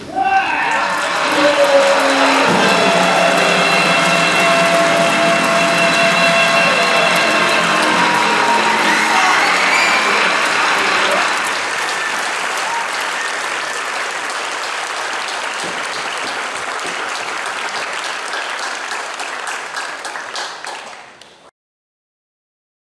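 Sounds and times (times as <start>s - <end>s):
audience applauding: 0.0s - 21.5s.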